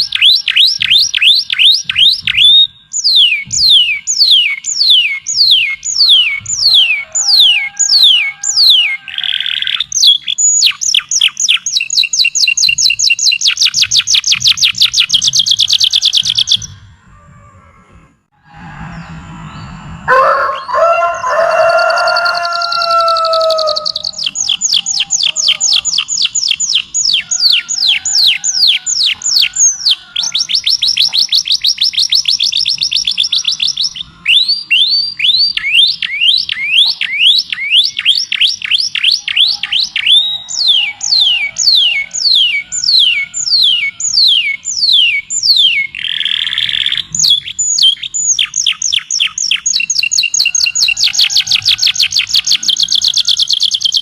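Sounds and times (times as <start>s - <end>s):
songbird whistled trills: 0.0s - 16.9s, 18.8s - 54.0s.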